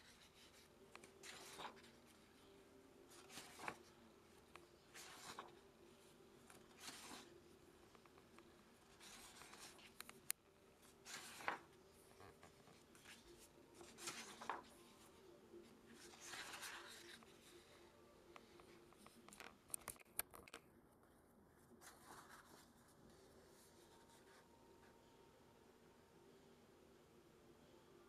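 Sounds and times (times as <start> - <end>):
paper pages rustling: 0.0 - 17.8, 18.4 - 20.6, 21.8 - 24.4
faint steady hum: 0.0 - 28.0.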